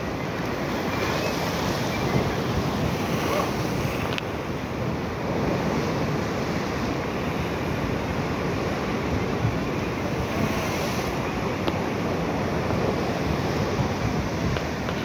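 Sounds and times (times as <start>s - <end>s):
ocean surf breaking on rocks: 0.0s - 15.0s
wind rumbling on microphone: 0.0s - 15.0s.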